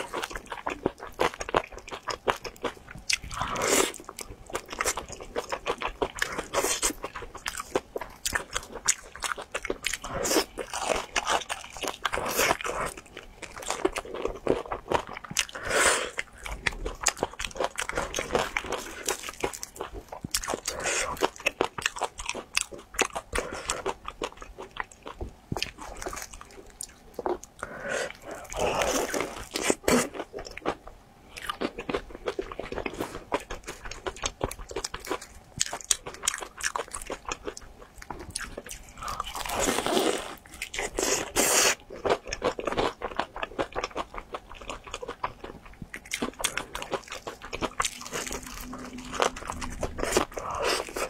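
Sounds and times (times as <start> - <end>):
crunchy chewing of fried chicken: 0.0 - 51.0.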